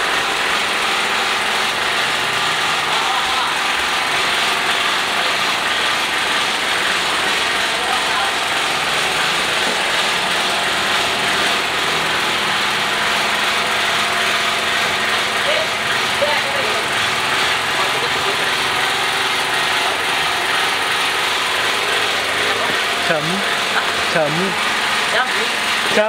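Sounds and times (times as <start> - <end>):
mechanical whirring: 0.0 - 26.0.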